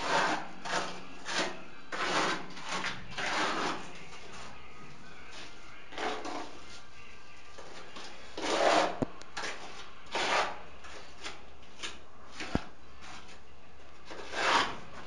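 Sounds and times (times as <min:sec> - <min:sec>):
hand tool scraping tile edges: 0:00.0 - 0:04.5, 0:05.3 - 0:06.7, 0:07.6 - 0:13.4, 0:14.1 - 0:15.0.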